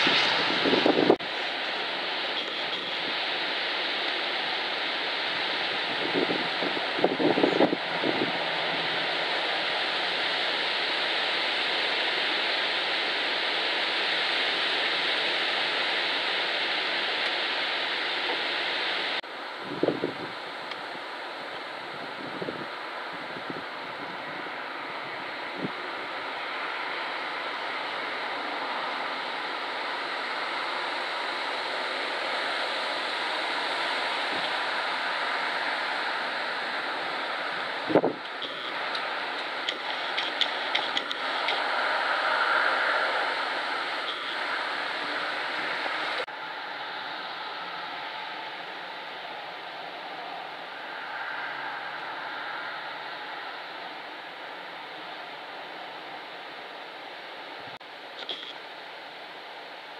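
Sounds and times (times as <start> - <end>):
wind rustling tree leaves: 0.0 - 59.9.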